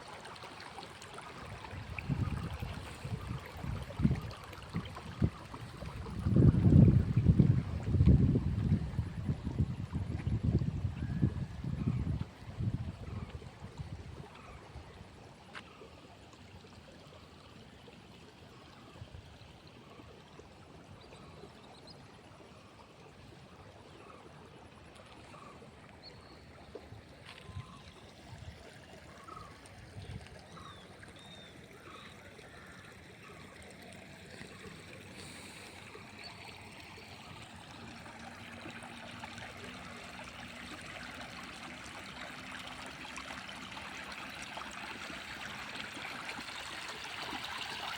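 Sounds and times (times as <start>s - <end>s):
stream trickling: 0.0s - 47.9s.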